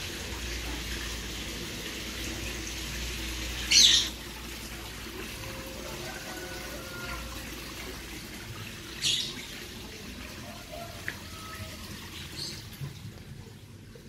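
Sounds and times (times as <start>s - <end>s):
trickling water: 0.0s - 14.0s.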